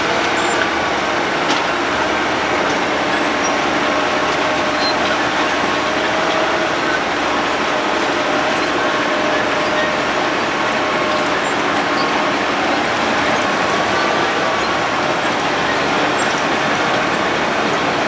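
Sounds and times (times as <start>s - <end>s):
road milling machine running: 0.0s - 18.0s.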